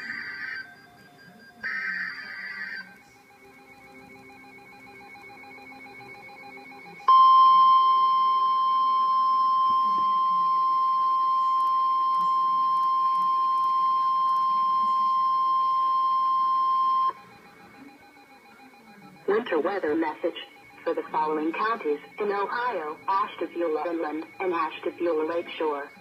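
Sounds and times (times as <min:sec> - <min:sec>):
loud steady alarm tone: 0:00.0 - 0:26.0.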